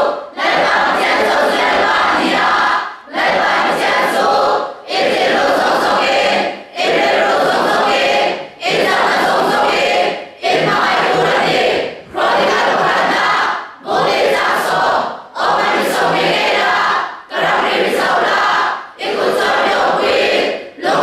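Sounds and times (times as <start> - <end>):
choir singing in unison: 0.0 - 21.0.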